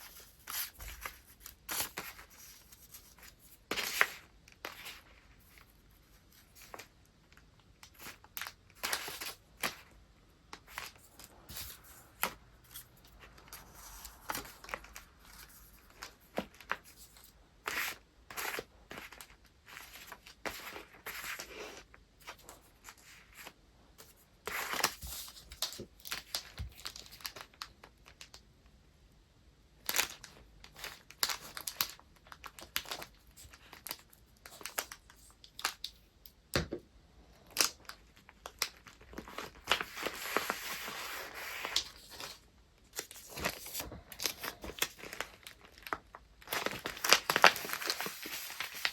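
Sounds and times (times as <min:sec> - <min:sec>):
paper rustling and crinkling: 0:00.0 - 0:28.3, 0:37.4 - 0:48.9.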